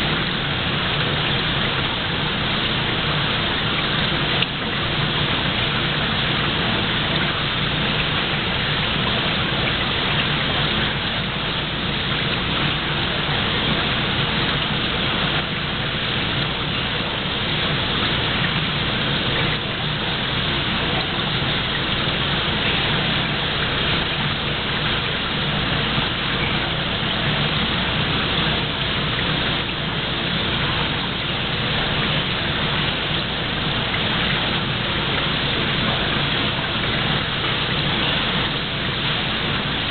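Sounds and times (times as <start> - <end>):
water running into tank: 0.0 - 39.9.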